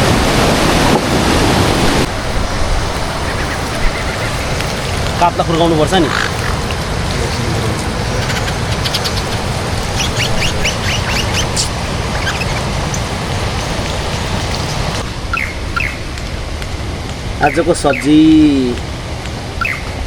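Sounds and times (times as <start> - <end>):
stream water rushing over rocks: 0.0 - 20.0.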